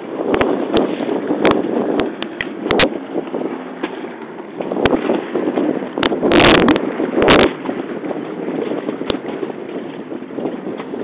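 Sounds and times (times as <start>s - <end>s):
boat rushing through choppy water: 0.0s - 11.0s
wind buffeting microphone: 0.0s - 11.0s.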